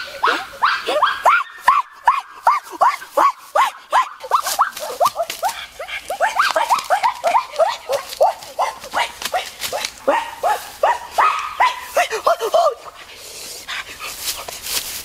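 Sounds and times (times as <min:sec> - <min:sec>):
animal yelping: 0:00.0 - 0:12.9.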